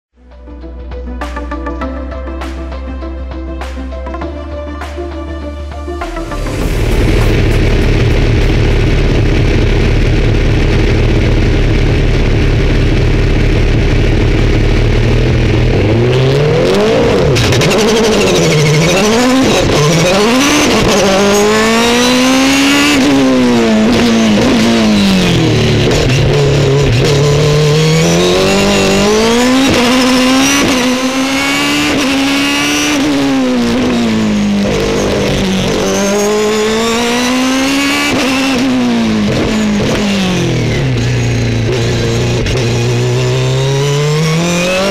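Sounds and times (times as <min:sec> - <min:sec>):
racing car engine revving: 0:06.0 - 0:44.9.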